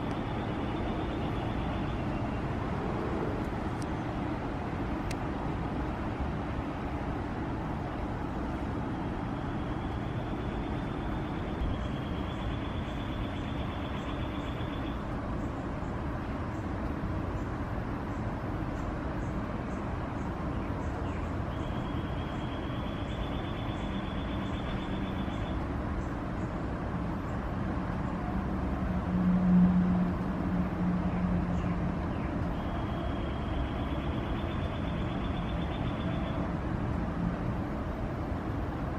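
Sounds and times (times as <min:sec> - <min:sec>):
low outdoor rumble: 0:00.0 - 0:38.9.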